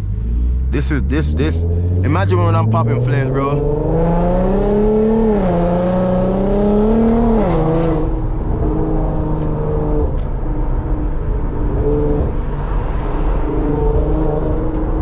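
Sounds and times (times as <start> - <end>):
loud car exhaust while driving: 0.0 - 15.0.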